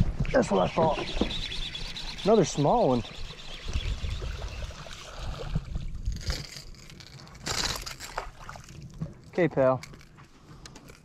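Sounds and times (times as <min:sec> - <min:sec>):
water splashing and sloshing: 0:00.0 - 0:10.2.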